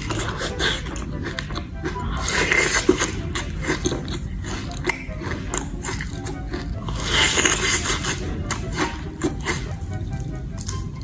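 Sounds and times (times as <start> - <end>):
biting and chewing cookie: 0.0 - 11.0
crisp crunching: 0.0 - 11.0.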